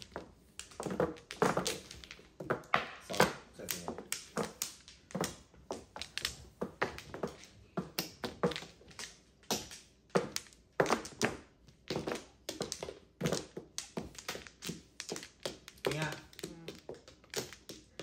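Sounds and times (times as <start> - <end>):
mahjong tiles clacking: 0.0 - 18.0.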